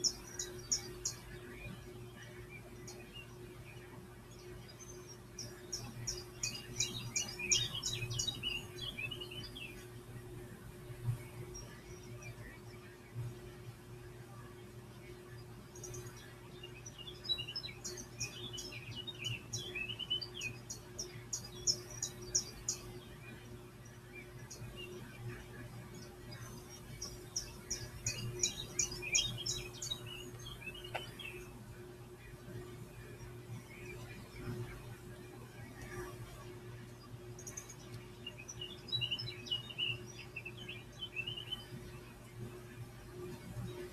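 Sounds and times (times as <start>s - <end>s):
recorded bird chirps: 0.0s - 43.9s
steady low hum: 0.0s - 43.9s.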